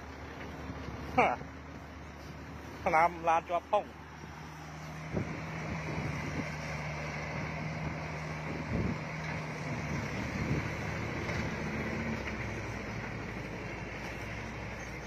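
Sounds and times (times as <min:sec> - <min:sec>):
dump truck diesel engine running: 0:00.0 - 0:15.0.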